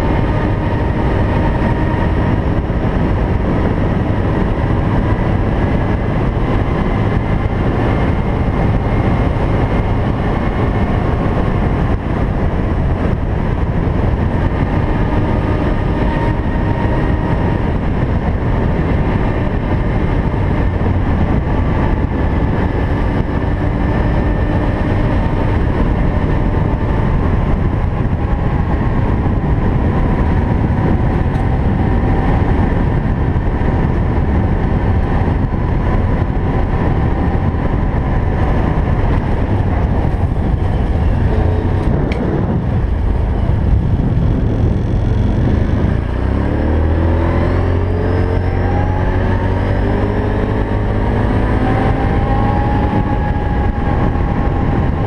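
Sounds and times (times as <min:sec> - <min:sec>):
quad engine running: 0:00.0 - 0:55.0.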